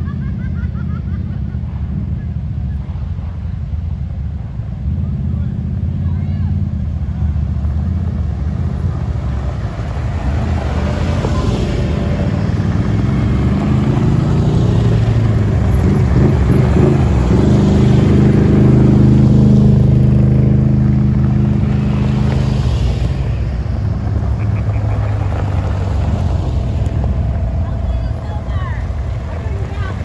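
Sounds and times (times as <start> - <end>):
off-road vehicle engines passing: 0.0 - 30.0.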